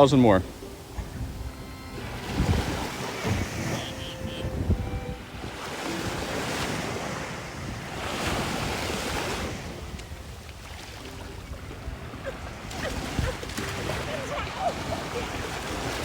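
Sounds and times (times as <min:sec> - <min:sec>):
small waves washing on sand: 0:00.0 - 0:16.0
wind buffeting microphone: 0:00.0 - 0:16.0.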